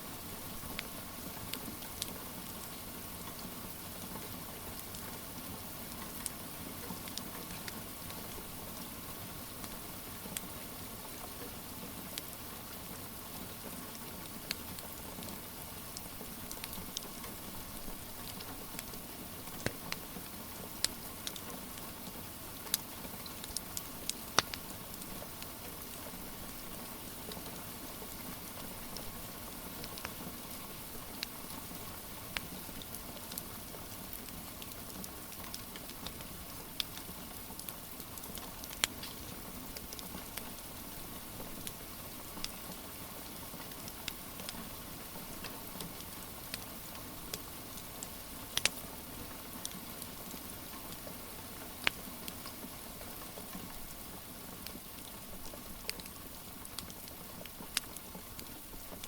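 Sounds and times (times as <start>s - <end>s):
steady rain: 0.0s - 59.0s
wood fire crackling: 0.2s - 2.7s, 3.3s - 8.6s, 12.0s - 59.0s.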